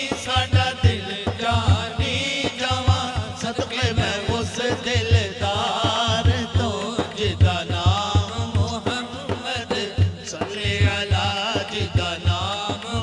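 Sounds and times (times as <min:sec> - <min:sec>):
man singing: 0:00.0 - 0:13.0
low drumbeat: 0:00.2 - 0:13.0.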